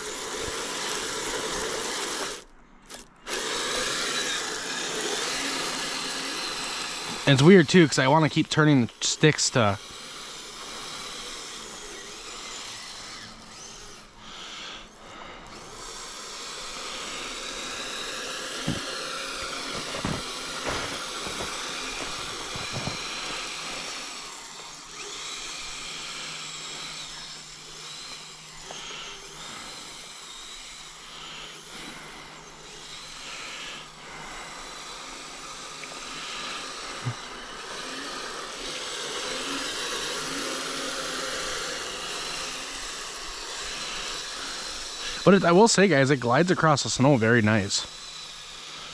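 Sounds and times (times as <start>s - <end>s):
electric motor and gears whining: 0.0s - 48.9s.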